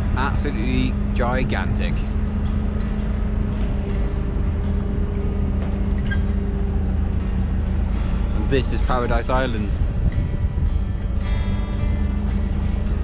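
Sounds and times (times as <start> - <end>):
boat engine droning: 0.0 - 13.0
wind: 0.0 - 13.0.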